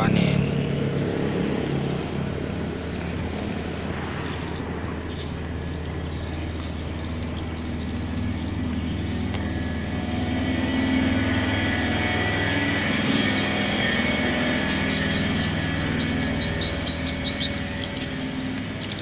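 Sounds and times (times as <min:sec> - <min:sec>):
high insect chirping: 0:00.0 - 0:19.0
low machine drone: 0:00.0 - 0:19.0.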